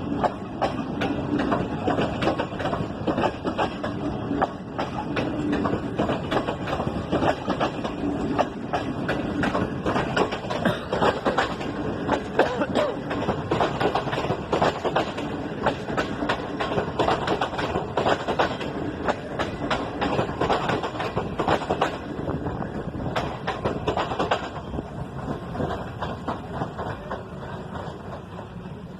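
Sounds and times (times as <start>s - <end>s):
train wheels clattering on rails: 0.0s - 28.9s.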